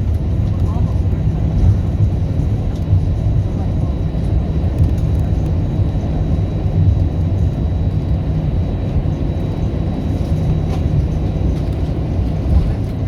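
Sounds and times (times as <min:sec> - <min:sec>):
aircraft cabin rumble while taxiing: 0:00.0 - 0:13.0.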